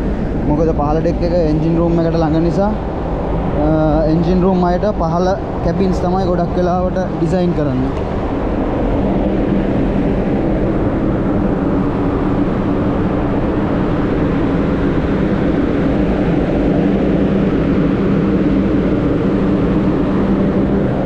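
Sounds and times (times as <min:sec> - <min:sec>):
engine-room machinery drone: 0:00.0 - 0:21.0.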